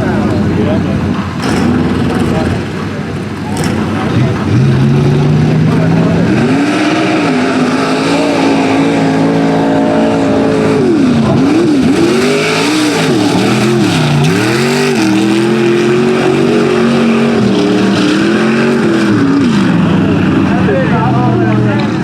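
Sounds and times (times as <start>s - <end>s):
truck engine at high revs: 0.0s - 22.0s.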